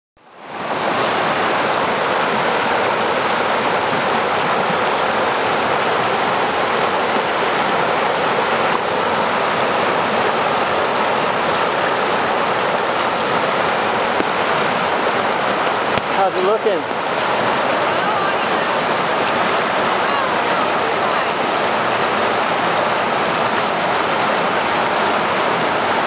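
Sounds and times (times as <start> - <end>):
stream rushing over boulders: 0.2 - 26.0.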